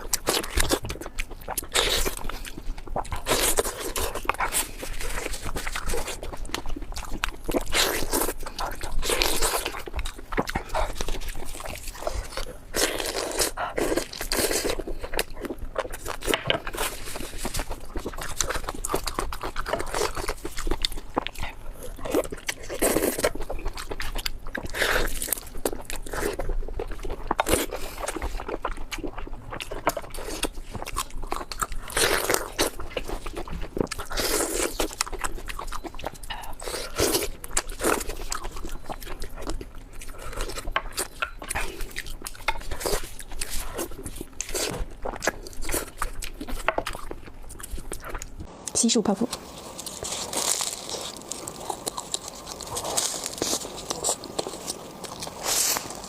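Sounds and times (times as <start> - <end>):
crunchy bites and chewing: 0.0 - 48.6, 49.3 - 56.0.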